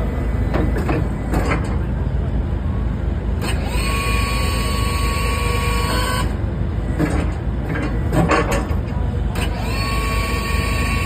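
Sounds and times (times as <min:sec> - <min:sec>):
excavator engine rumble: 0:00.0 - 0:11.0
high hydraulic whine: 0:00.0 - 0:11.0.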